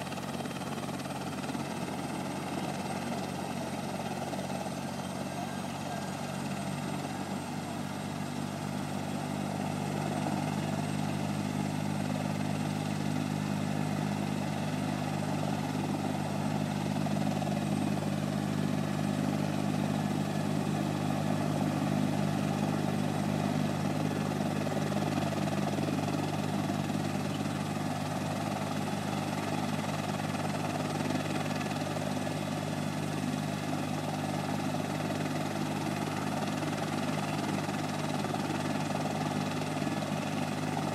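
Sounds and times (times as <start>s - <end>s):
helicopter engine and rotor hum: 0.0s - 40.9s.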